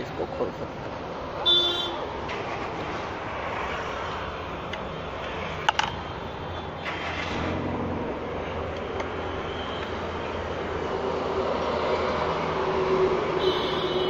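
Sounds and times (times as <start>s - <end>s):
vehicle noise low hum: 0.0s - 14.0s.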